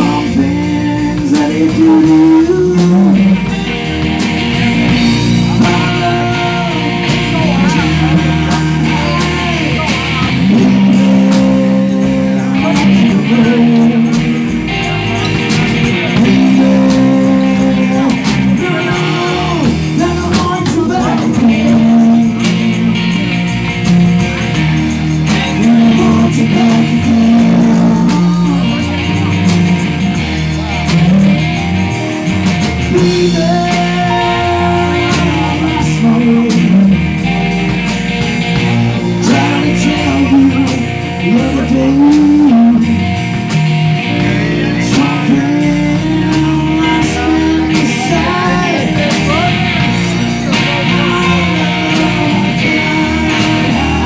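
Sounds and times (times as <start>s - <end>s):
electric guitar: 0.0s - 54.0s
person singing: 0.0s - 54.0s.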